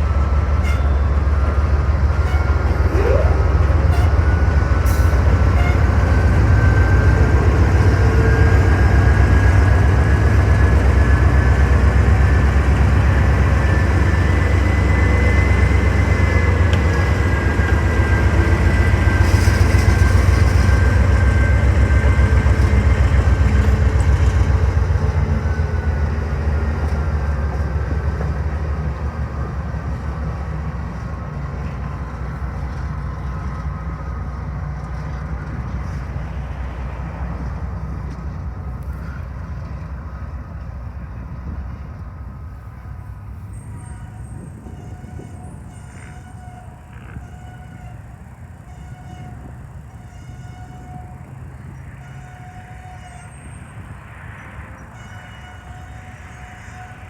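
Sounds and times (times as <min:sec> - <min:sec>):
train wheel squeals: 0:00.0 - 0:41.1, 0:42.7 - 0:57.0
freight cars rumbling on rails: 0:00.0 - 0:57.0.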